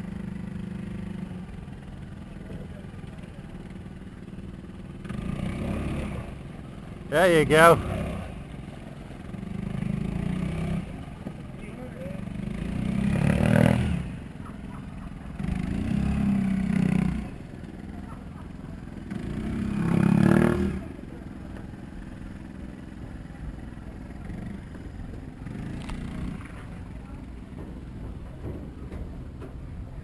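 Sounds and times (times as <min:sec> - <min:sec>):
outboard motor revving: 0:00.1 - 0:27.0.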